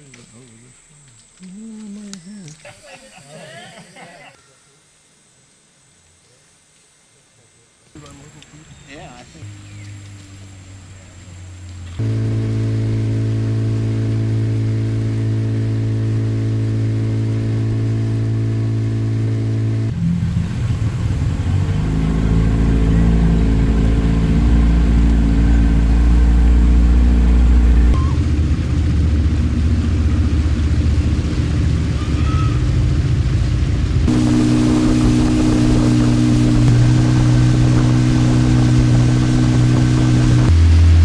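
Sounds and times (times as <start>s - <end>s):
vehicle engine running: 8.0s - 41.0s.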